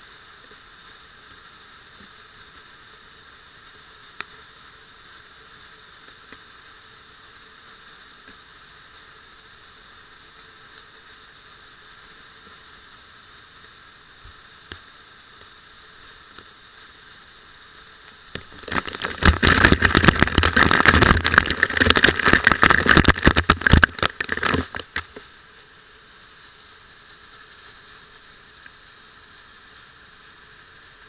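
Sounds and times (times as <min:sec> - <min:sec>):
rush of falling water: 0:00.0 - 0:31.0.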